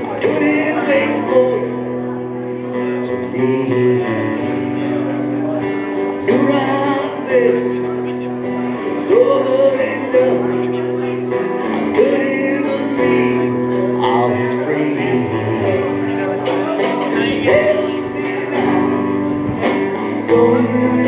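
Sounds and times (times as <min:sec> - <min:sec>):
bass guitar: 0:00.0 - 0:21.0
strummed guitar chords: 0:00.0 - 0:21.0.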